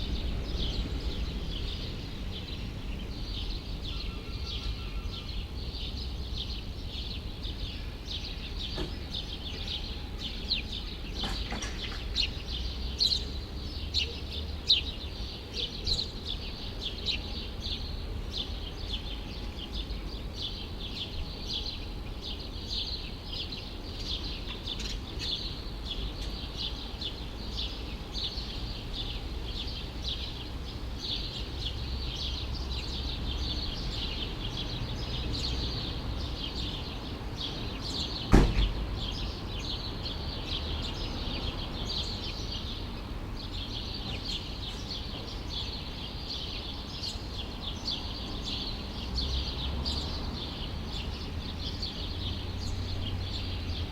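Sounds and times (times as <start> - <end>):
birds chirping: 0.0 - 53.9
low city rumble: 0.0 - 53.9.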